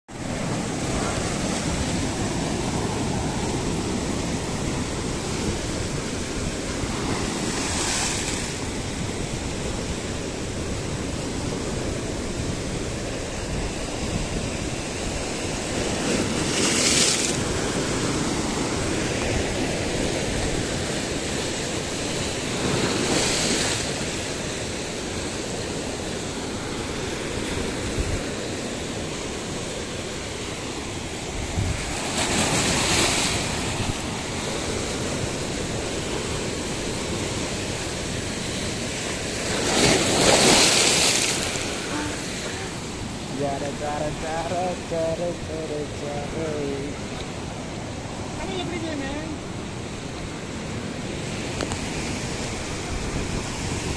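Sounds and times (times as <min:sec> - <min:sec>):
waves crashing on rocks: 0:00.1 - 0:53.9.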